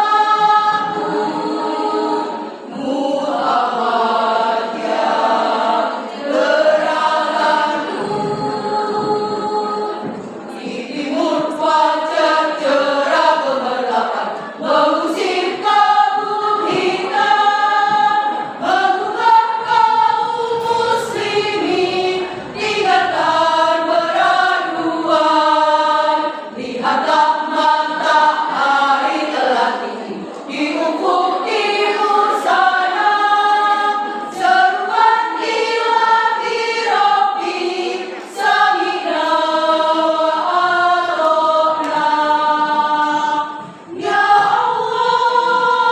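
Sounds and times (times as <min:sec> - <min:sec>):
women's choir singing: 0:00.0 - 0:45.9.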